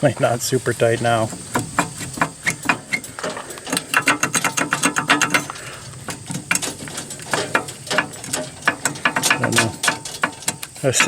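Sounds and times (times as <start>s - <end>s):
wagon steering pivot rattling: 0.0s - 11.0s
metal-on-metal clacks: 0.1s - 11.0s.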